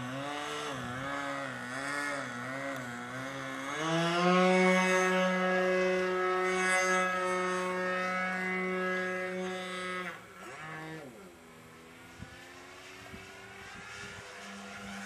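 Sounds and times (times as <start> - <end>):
model plane engine running: 0.0 - 15.0.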